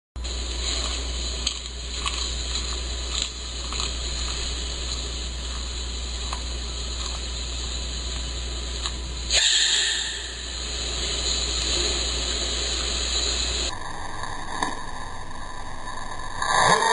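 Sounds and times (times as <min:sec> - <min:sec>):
low hum and hiss: 0:00.2 - 0:16.9.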